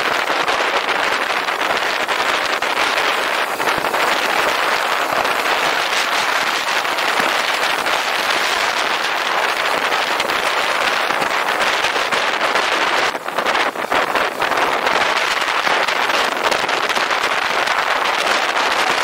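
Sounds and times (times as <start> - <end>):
road noise: 0.0 - 19.0
wind on microphone: 0.0 - 19.0.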